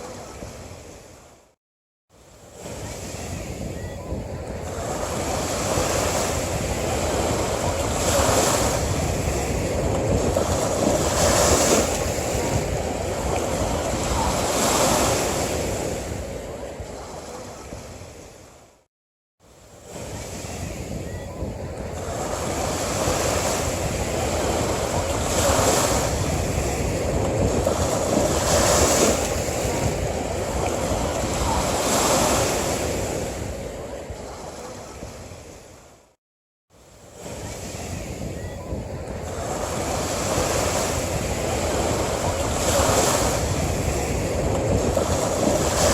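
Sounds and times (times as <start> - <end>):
ocean waves breaking on beach: 0.0 - 18.8, 19.4 - 45.9.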